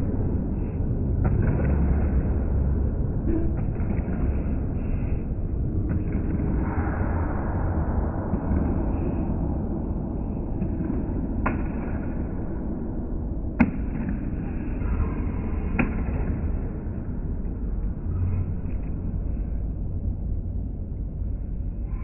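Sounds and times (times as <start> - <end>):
muffled sports hall rumble: 0.0 - 22.0.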